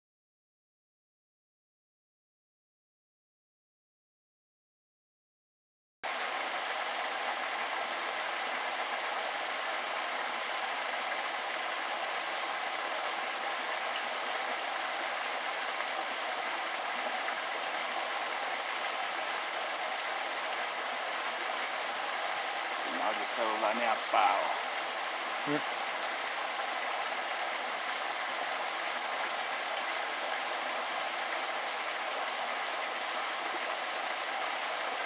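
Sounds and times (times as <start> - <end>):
stream water rushing: 6.0 - 35.0.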